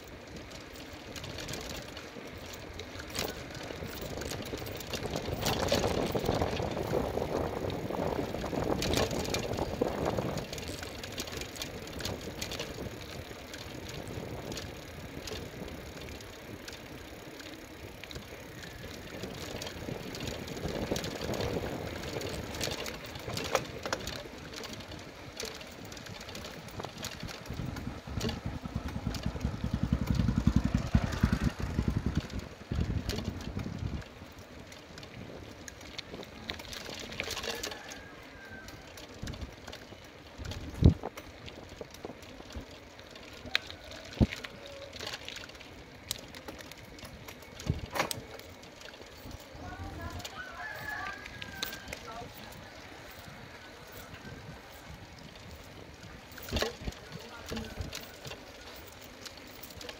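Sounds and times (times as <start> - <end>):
bicycle rolling on concrete: 0.0 - 59.9.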